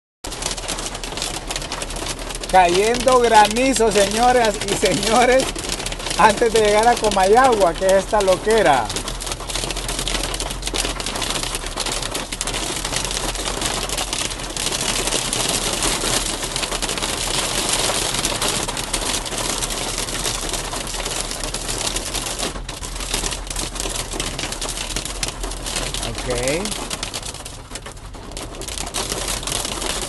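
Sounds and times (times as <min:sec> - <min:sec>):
hail pelting a car roof: 0:00.3 - 0:30.0.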